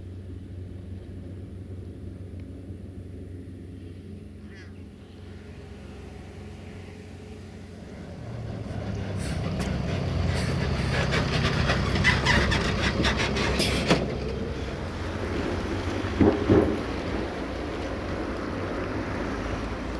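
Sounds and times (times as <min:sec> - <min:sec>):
vehicle engine rumble: 0:00.0 - 0:19.9.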